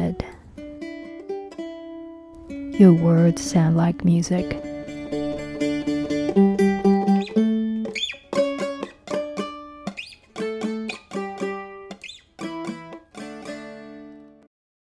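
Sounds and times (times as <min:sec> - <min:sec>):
plucked guitar music: 0:00.0 - 0:14.5.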